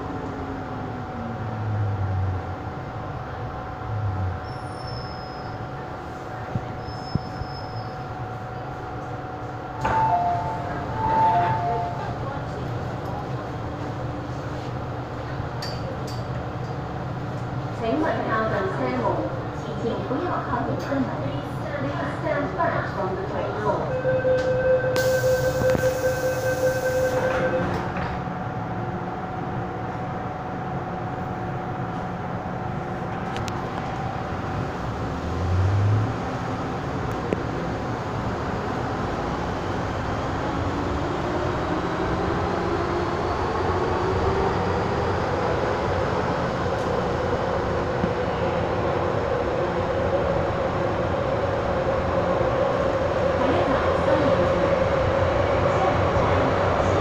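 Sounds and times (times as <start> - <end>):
subway car rumbling: 0.0 - 57.0.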